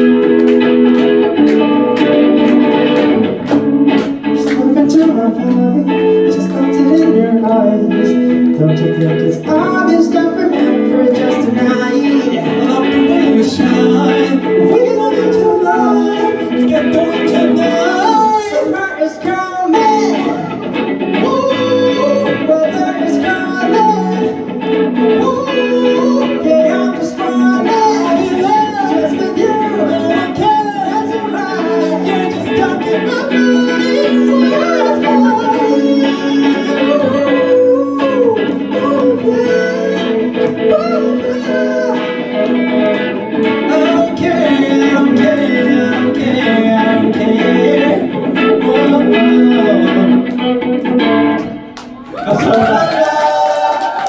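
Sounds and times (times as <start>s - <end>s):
song with guitar and singing: 0.0s - 54.0s.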